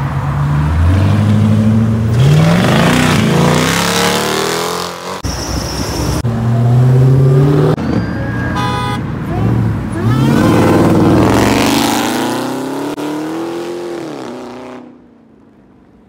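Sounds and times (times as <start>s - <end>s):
car engines revving: 0.0s - 15.6s.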